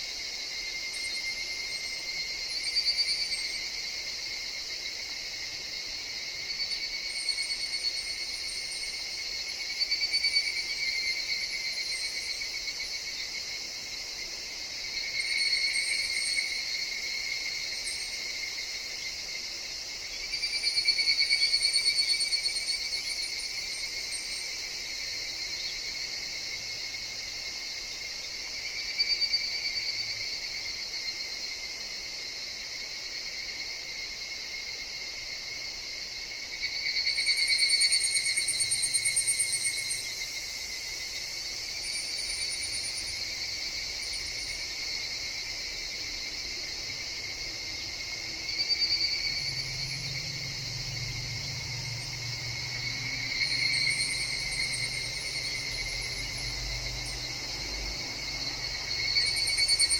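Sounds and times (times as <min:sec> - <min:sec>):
cicadas calling: 0:00.0 - 0:59.9
high-pitched insect drone: 0:00.0 - 0:59.9.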